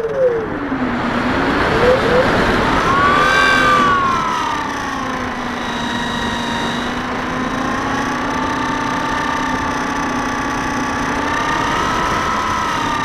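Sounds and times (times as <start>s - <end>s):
electric motor propeller whine: 0.0s - 13.0s.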